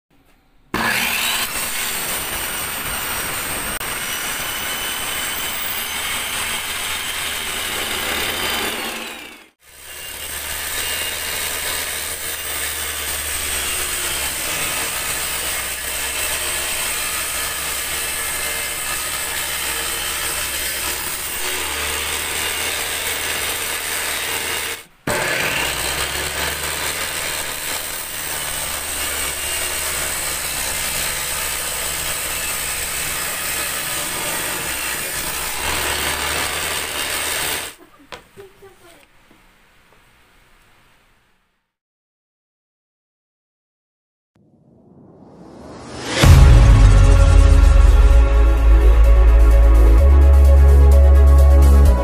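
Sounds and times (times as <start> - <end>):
table saw cutting board: 0.7 - 37.8, 45.6 - 52.0.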